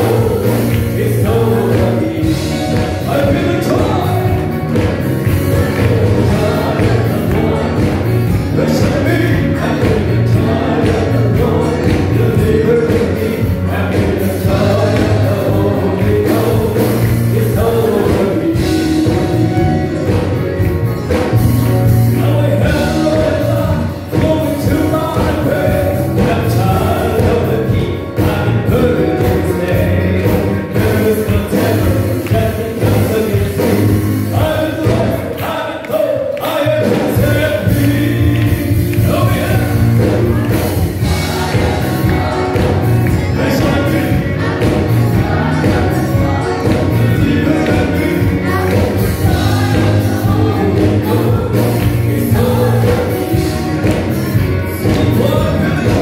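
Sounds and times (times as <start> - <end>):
choir singing gospel song: 0.0 - 56.0
instrumental accompaniment with bass: 0.0 - 56.0.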